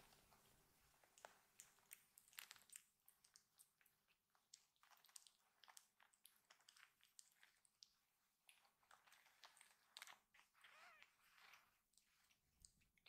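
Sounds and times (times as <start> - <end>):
faint clicks and rustles of kittens: 0.0 - 13.0.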